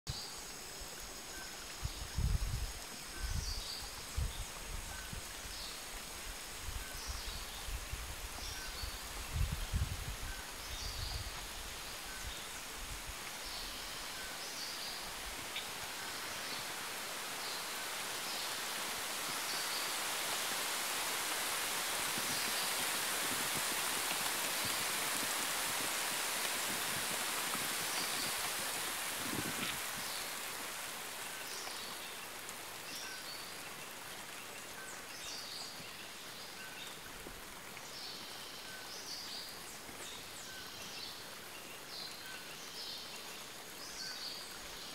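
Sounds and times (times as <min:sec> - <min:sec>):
rain falling on foliage: 0:00.1 - 0:44.9.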